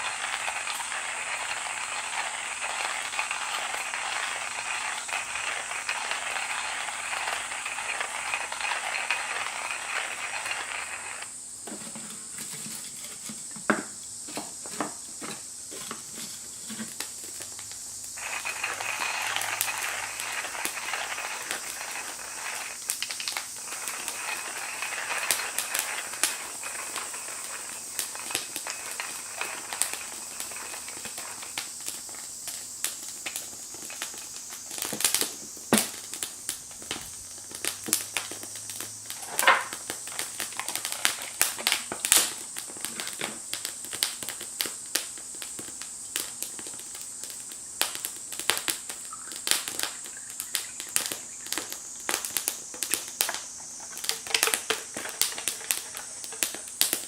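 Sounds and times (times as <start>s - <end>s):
wood fire popping and snapping: 0.0s - 11.4s, 13.6s - 57.0s
faint steady hiss: 0.0s - 57.0s.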